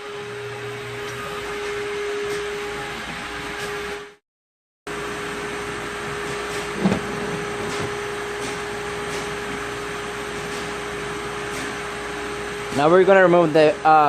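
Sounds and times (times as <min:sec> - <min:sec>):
steady mechanical hum: 0:00.0 - 0:04.2, 0:04.9 - 0:14.0.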